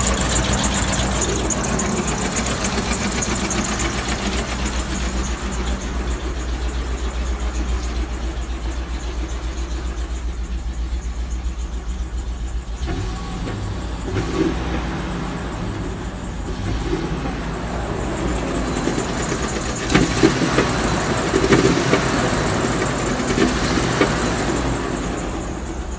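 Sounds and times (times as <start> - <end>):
car engine knocking: 0.0 - 25.9.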